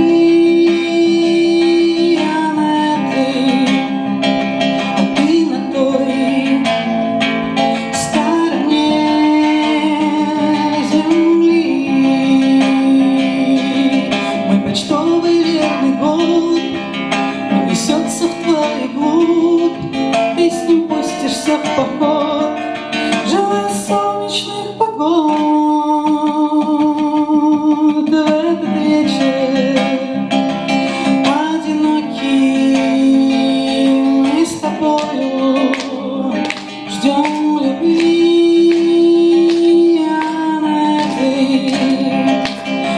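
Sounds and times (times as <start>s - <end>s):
acoustic guitar: 0.0s - 42.9s
woman singing: 0.0s - 42.9s.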